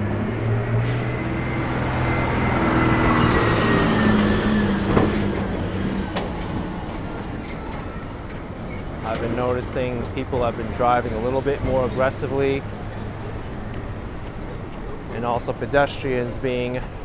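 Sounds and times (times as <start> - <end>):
large truck driving past: 0.0 - 15.1.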